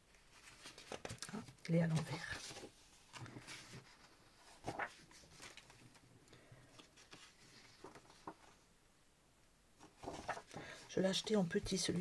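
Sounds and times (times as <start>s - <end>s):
paper rustling: 0.2s - 6.0s, 6.7s - 8.6s, 9.8s - 12.0s.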